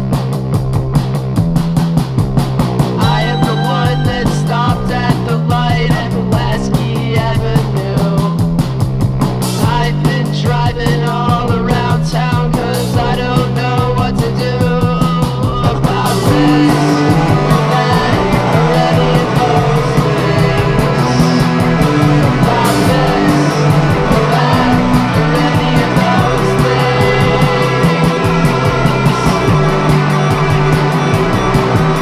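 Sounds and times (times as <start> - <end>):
rock music with guitar and drums: 0.0 - 32.0.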